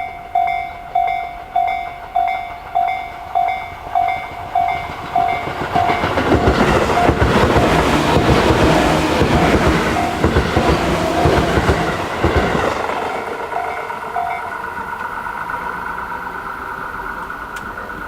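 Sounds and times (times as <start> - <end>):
level-crossing bell ringing: 0.0 - 14.8
train rumble: 0.0 - 18.0
wheels clattering over rail joints: 0.0 - 18.0.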